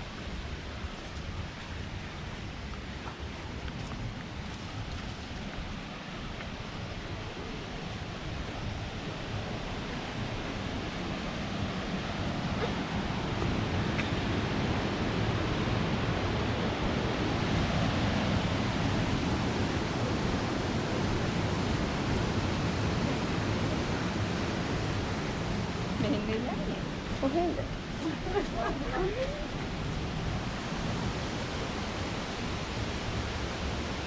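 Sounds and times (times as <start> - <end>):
waterfall rushing: 5.6 - 34.0.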